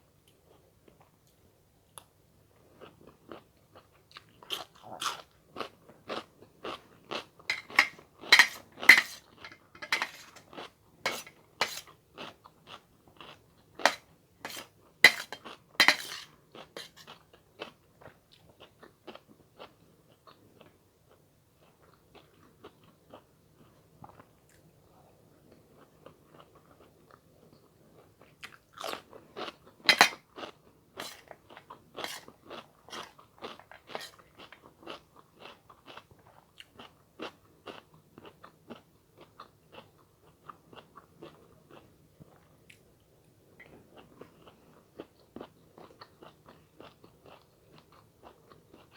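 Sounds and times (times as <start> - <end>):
chewing and crunching food: 0.2 - 48.9.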